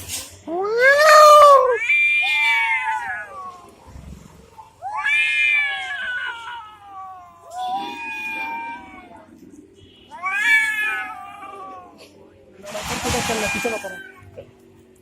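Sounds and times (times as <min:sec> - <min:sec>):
cats yowling in a fight: 0:00.5 - 0:09.5, 0:10.1 - 0:12.2, 0:12.9 - 0:14.5.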